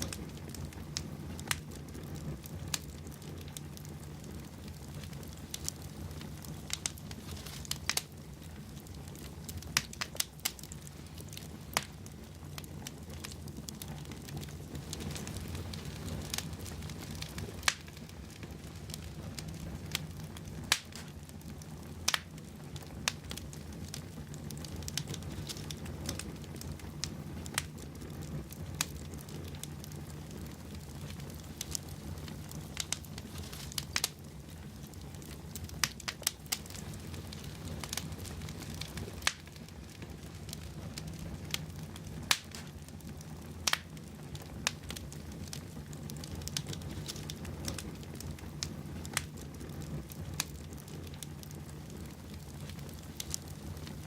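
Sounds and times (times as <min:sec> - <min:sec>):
fire flames rumbling: 0:00.0 - 0:54.0
logs crackling and popping: 0:00.0 - 0:54.0.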